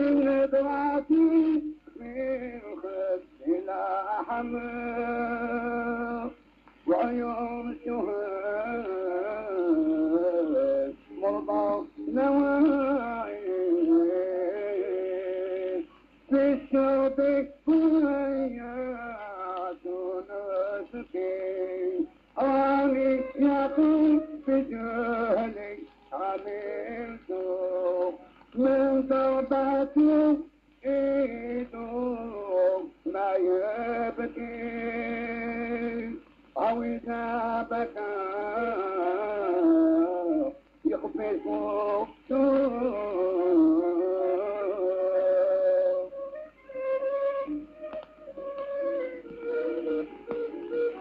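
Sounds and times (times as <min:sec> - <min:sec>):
man singing ornamented vocal line: 0:00.0 - 0:51.0.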